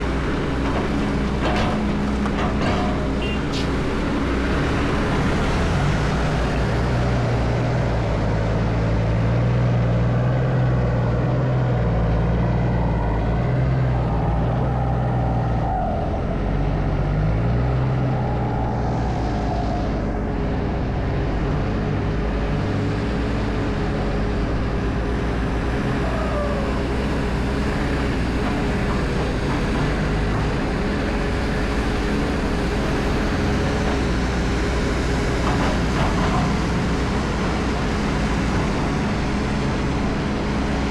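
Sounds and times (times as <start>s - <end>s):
heavy vehicle engine humming: 0.0s - 40.9s.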